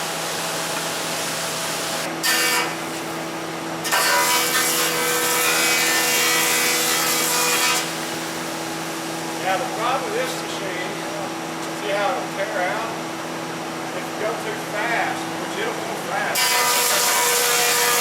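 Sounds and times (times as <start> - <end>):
band sawmill cutting log: 0.0 - 13.0, 13.9 - 18.0.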